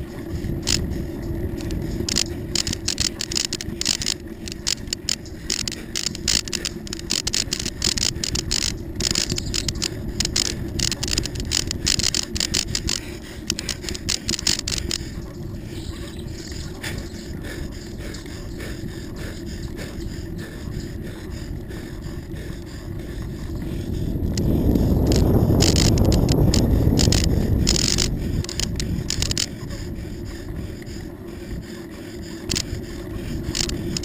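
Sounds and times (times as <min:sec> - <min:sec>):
bicycle tyres rumbling: 0:00.0 - 0:34.0
bike rattling and clicking: 0:00.0 - 0:34.0
wind: 0:00.0 - 0:34.0.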